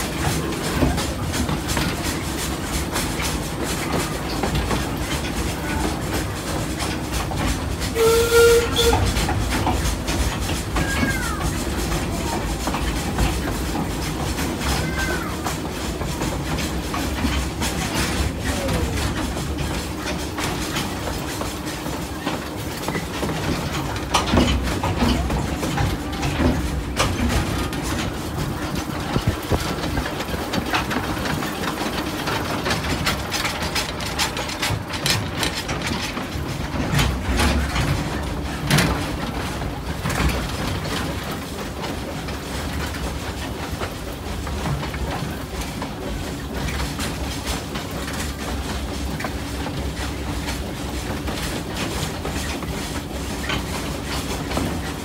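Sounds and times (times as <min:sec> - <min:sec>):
train running rumble: 0:00.0 - 0:55.0
wheel clicks and knocks: 0:00.0 - 0:55.0.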